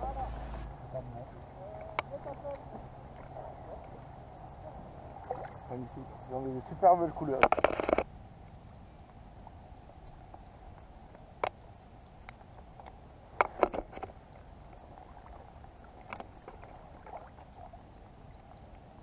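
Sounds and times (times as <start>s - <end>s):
water lapping and splashing: 0.0s - 19.0s.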